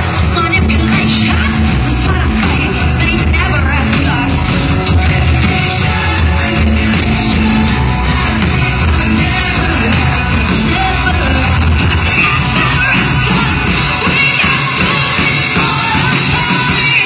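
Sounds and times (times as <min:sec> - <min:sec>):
live pop-rock band playing: 0:00.0 - 0:17.0
woman singing: 0:00.0 - 0:17.0.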